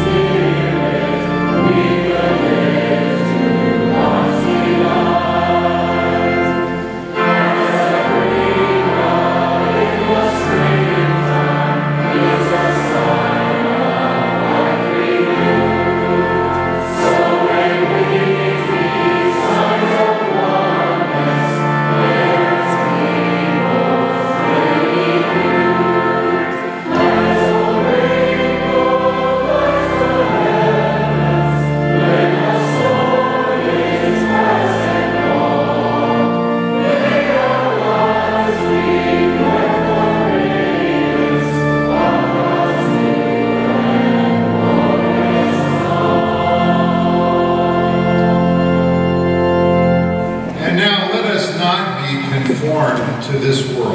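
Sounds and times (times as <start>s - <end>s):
congregation singing a hymn: 0.0s - 53.9s
instrumental accompaniment: 0.0s - 53.9s.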